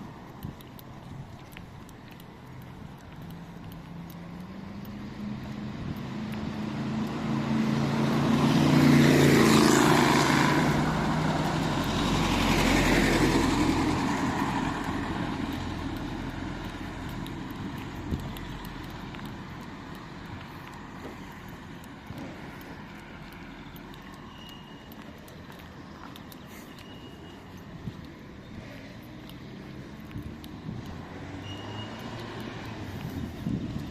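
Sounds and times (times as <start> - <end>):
vehicles driving past: 0.0 - 33.9.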